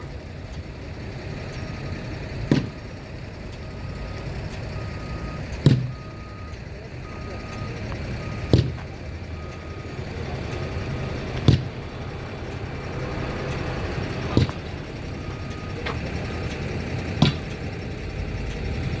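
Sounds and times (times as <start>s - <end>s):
faint beeping: 0.0s - 18.9s
heavy vehicle engine running: 0.0s - 19.0s.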